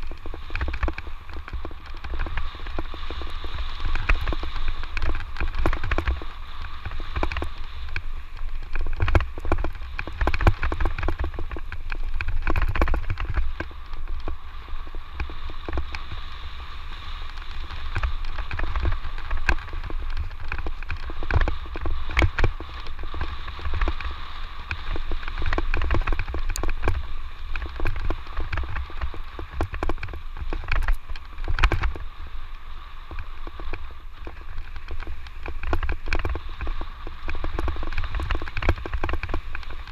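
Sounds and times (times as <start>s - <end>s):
bike rattling over rocks: 0.0s - 39.9s
faint steady whine: 0.0s - 39.9s
wind rumble on microphone: 0.0s - 39.9s.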